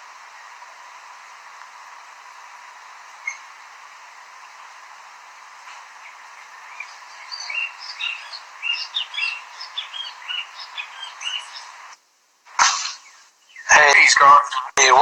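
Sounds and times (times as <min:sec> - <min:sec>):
small birds chirping: 0:00.0 - 0:12.0, 0:12.7 - 0:14.8
steady hiss: 0:00.0 - 0:15.0.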